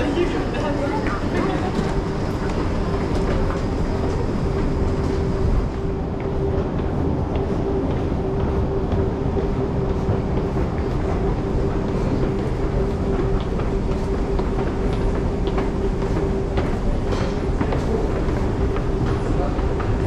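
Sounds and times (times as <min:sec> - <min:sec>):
constant hum: 0:00.0 - 0:20.0
train rumble: 0:00.0 - 0:20.0.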